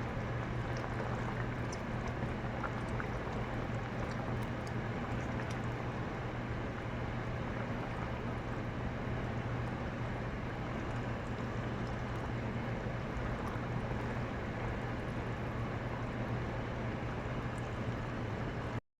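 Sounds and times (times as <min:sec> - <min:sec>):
low mechanical hum: 0:00.0 - 0:18.8.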